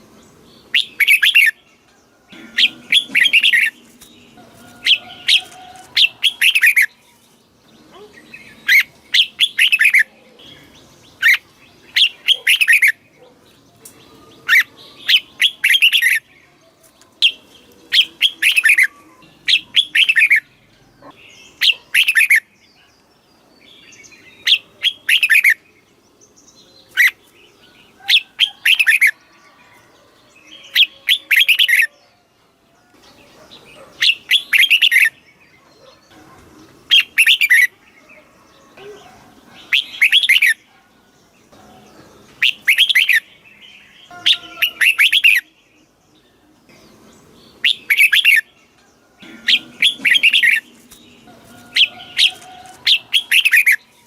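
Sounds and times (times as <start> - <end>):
bulbul singing: 0.0 - 23.0, 33.0 - 40.8, 41.4 - 54.0.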